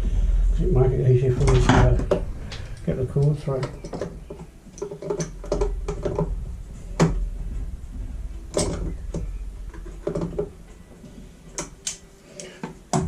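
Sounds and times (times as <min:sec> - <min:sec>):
low handling rumble: 0:00.0 - 0:11.6.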